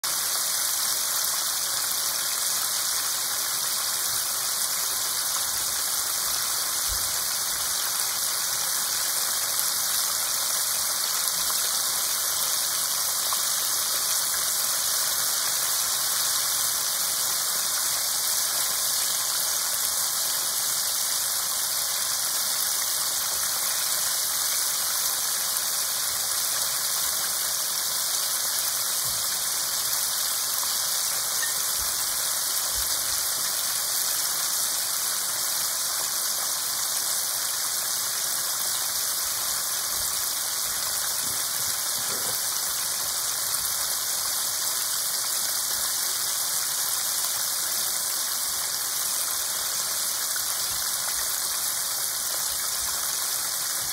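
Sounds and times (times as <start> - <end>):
oil sizzling while deep-frying: 0.0 - 53.9.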